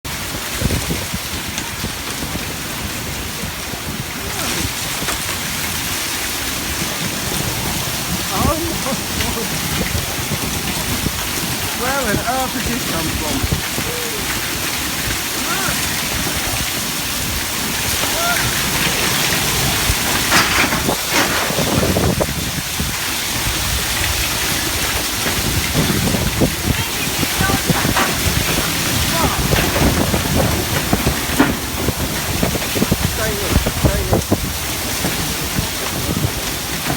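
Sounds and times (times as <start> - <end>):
driving rain: 0.0 - 36.9
storm wind rushing: 0.1 - 36.9
wind buffeting microphone: 0.1 - 36.9.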